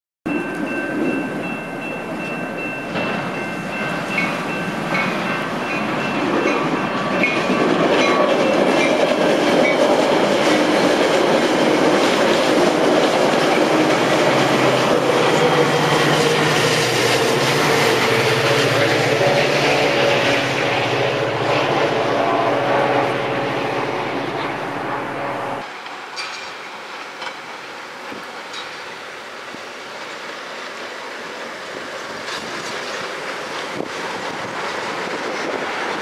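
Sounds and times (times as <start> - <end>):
train rumbling and clattering: 0.3 - 36.0.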